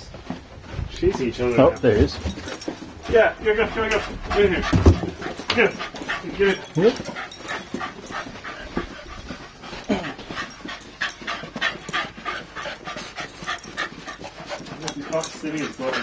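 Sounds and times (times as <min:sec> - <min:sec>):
dogs panting: 0:00.0 - 0:16.0.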